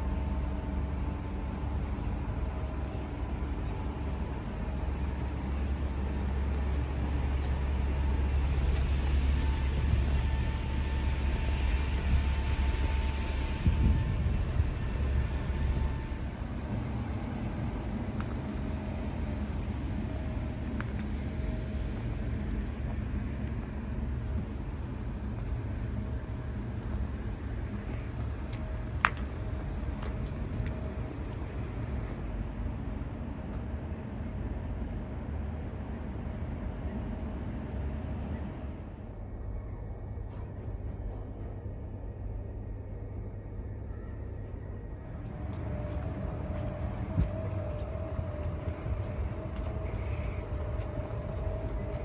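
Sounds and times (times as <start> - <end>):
faint steady whine: 0.0 - 52.0
ship machinery hum and rumble: 0.0 - 52.0.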